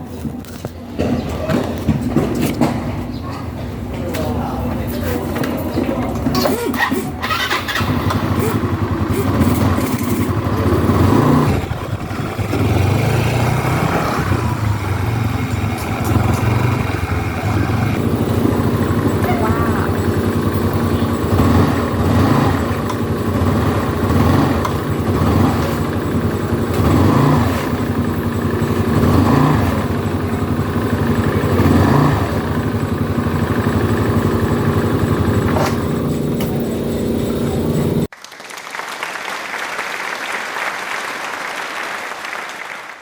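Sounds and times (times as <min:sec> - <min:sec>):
scooter engine revving: 0:01.0 - 0:38.1.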